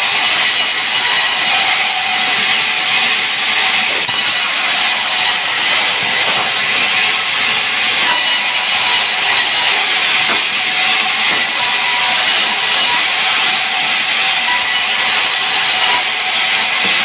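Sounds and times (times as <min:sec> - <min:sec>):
sawmill saw cutting wood: 0:00.0 - 0:17.0.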